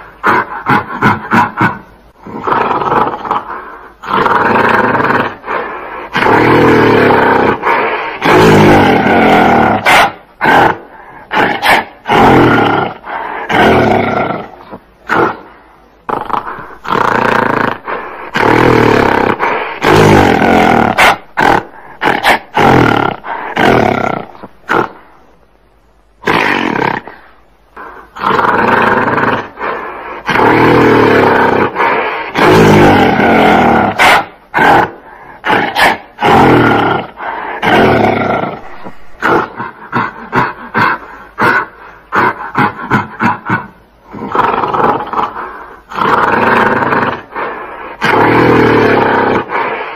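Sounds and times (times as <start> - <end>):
gorilla roaring and growling: 0.0 - 25.0, 26.2 - 49.9.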